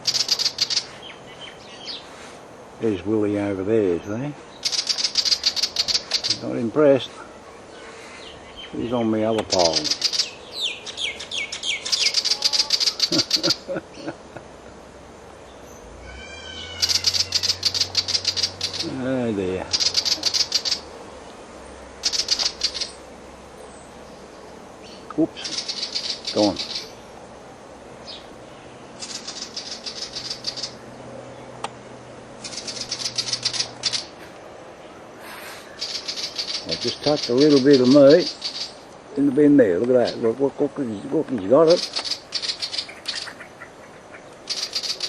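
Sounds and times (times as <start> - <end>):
bird falling calls: 0.0 - 2.3, 4.4 - 14.4, 15.5 - 27.1, 28.0 - 30.8, 32.4 - 45.0
small bird scolding chatter: 0.0 - 45.0.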